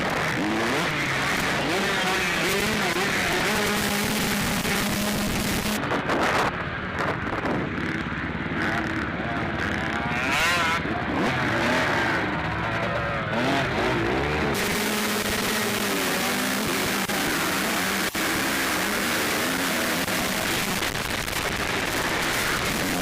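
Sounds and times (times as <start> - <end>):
constant rough noise: 0.0 - 23.0
motocross bikes revving: 0.0 - 23.0.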